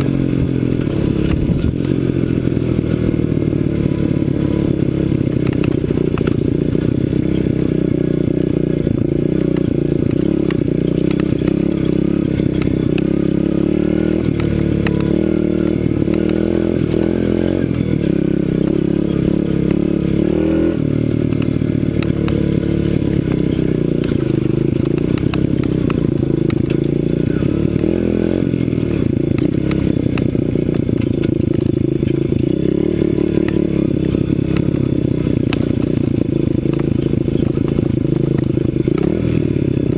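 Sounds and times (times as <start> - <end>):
bike rattles and clicks: 0.0 - 39.9
motorbike engine revving: 0.0 - 39.9.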